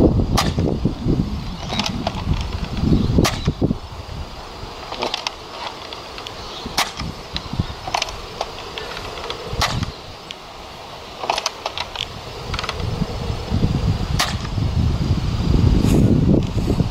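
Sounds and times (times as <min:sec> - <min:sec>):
wind rumble on microphone: 0:00.0 - 0:05.4, 0:06.2 - 0:16.9.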